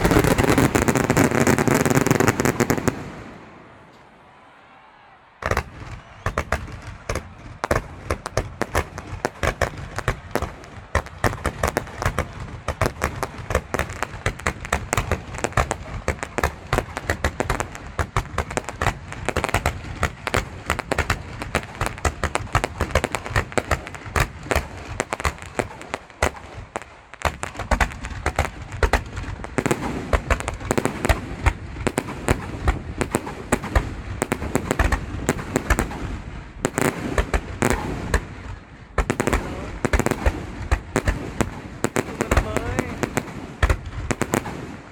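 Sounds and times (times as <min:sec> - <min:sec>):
fireworks bangs and crackles: 0:00.0 - 0:04.5, 0:05.3 - 0:44.9.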